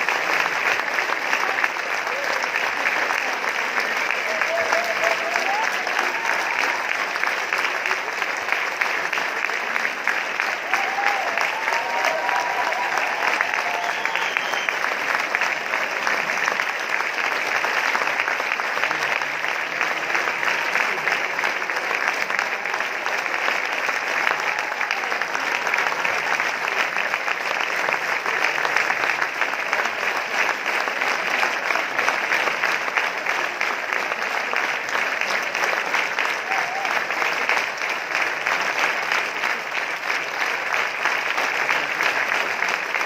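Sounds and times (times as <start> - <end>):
audience applauding: 0.0 - 43.0.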